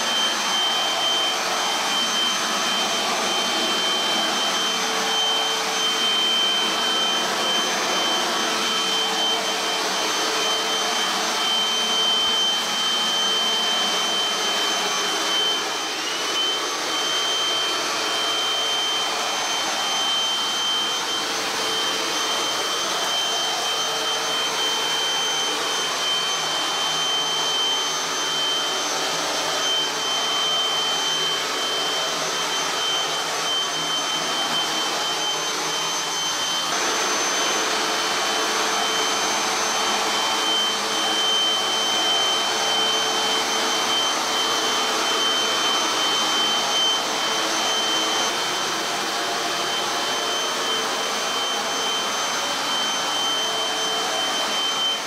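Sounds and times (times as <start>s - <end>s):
stick vacuum cleaner running: 0.0s - 55.0s.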